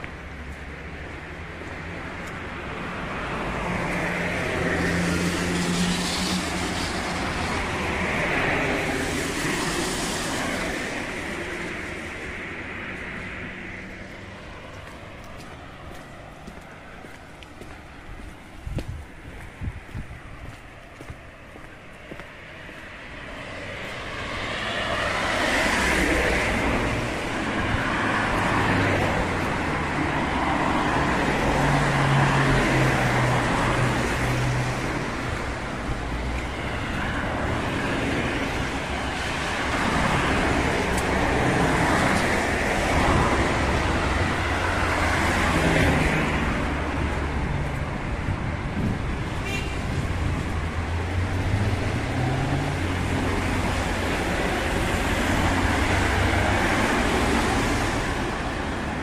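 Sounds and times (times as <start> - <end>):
cars passing on wet road: 0.0 - 59.0.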